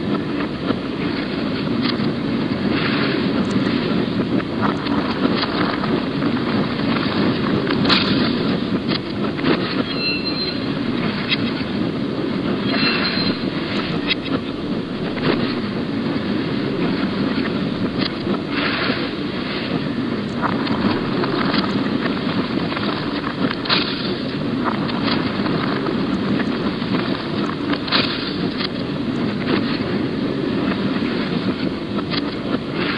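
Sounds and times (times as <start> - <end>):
moving train rumble: 0.0 - 32.9
wheels clicking on rail joints: 0.0 - 32.9.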